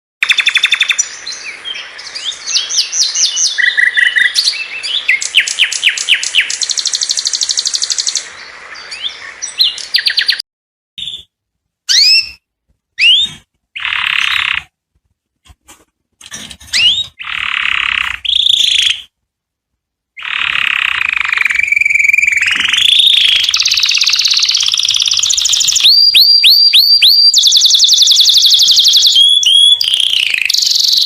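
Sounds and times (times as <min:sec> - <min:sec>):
canary singing trills: 0:00.2 - 0:10.4, 0:11.0 - 0:14.7, 0:16.3 - 0:19.2, 0:20.1 - 0:31.0
upward-sweeping bird calls: 0:00.2 - 0:10.4, 0:11.0 - 0:14.7, 0:16.6 - 0:19.2, 0:20.2 - 0:31.0.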